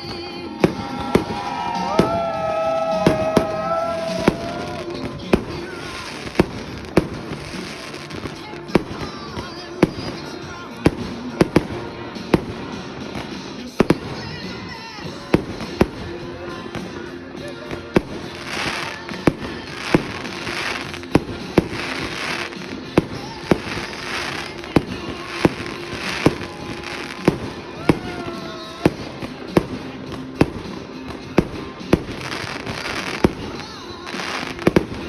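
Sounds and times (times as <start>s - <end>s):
crackling firework stars: 0.0s - 35.0s
firework bangs: 0.0s - 35.0s.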